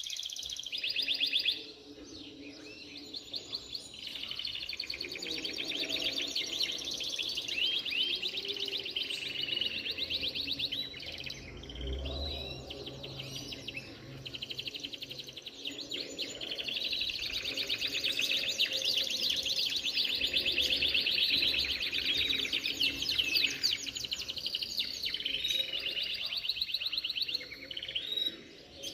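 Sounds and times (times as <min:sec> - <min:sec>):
canaries trilling: 0:00.0 - 0:28.9.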